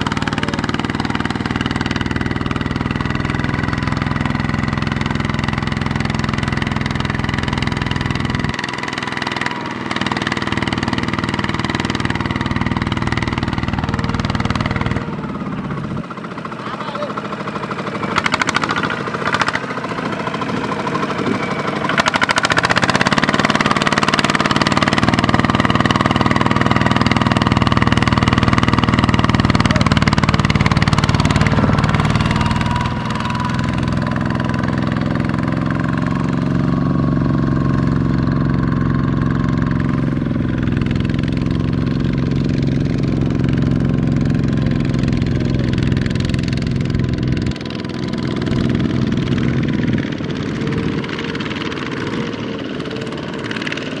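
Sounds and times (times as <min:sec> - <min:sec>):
diesel engine under heavy load: 0:00.0 - 0:54.0
wheels churning through mud: 0:00.0 - 0:54.0.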